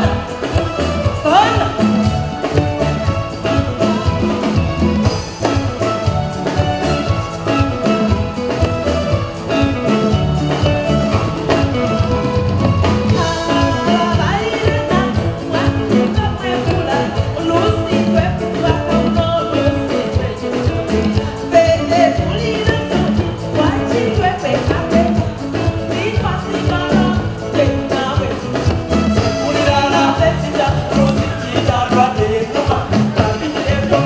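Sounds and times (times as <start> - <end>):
person singing: 0.0 - 8.8, 12.8 - 34.0
drum kit and congas beat: 0.0 - 34.0
keyboards: 0.0 - 34.0
live band playing dance music: 0.0 - 34.0.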